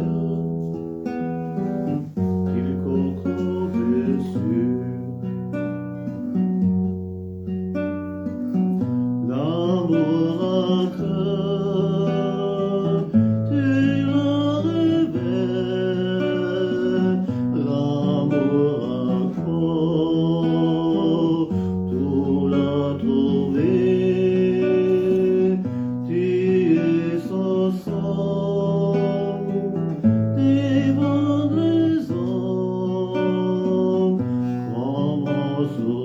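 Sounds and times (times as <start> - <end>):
acoustic guitar accompaniment: 0.0 - 36.0.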